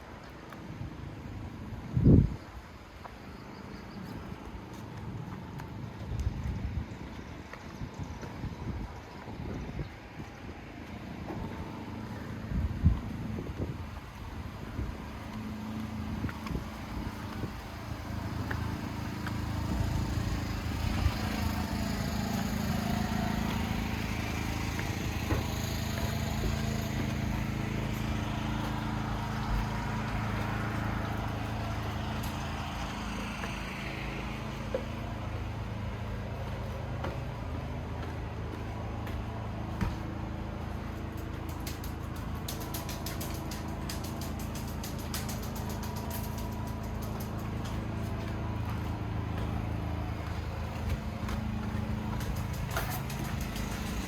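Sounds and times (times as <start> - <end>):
motorboat engine running: 3.8 - 54.0.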